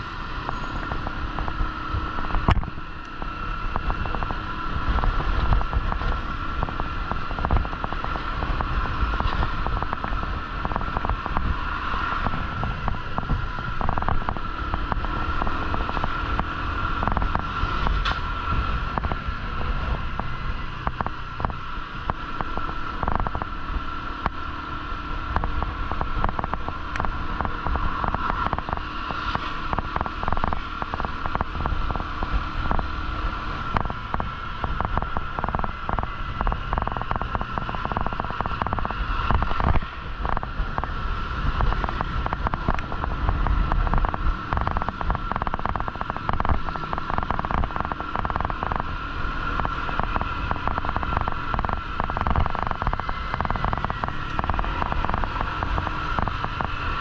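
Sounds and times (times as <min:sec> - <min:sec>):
engine and road rumble: 0:00.0 - 0:57.0
wind buffeting the microphone: 0:00.0 - 0:57.0.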